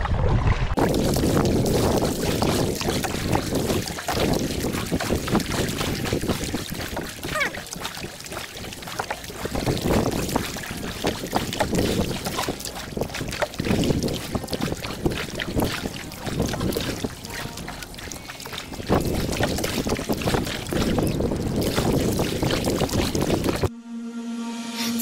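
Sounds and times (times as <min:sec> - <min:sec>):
paddle splashing water: 0:00.0 - 0:23.7
wind buffeting microphone: 0:00.0 - 0:23.7.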